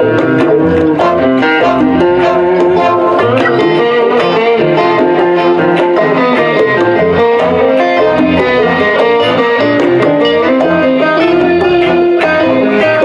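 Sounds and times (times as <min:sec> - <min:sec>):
acoustic guitar: 0:00.0 - 0:13.0
bass: 0:00.0 - 0:13.0
electric guitar: 0:00.0 - 0:13.0
saxophone: 0:00.0 - 0:13.0
steady beat: 0:00.0 - 0:13.0.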